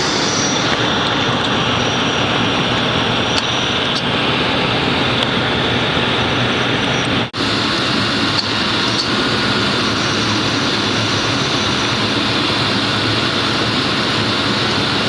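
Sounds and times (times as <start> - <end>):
engine and air flow noise: 0.0 - 15.0.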